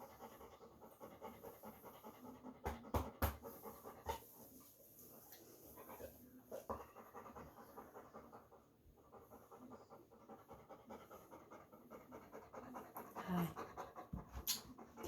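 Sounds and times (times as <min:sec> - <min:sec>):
dog panting faintly: 0:00.0 - 0:15.0.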